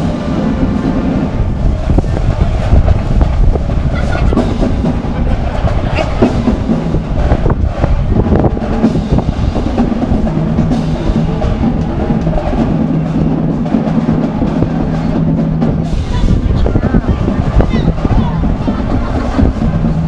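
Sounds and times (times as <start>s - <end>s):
band music: 0.0s - 20.0s
parade drumming: 0.0s - 20.0s.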